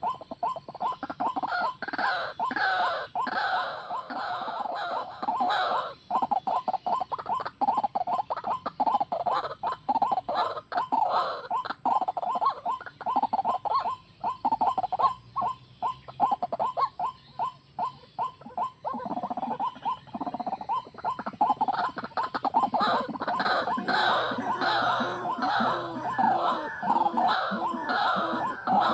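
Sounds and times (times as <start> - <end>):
waterhen calling: 0.0 - 28.9.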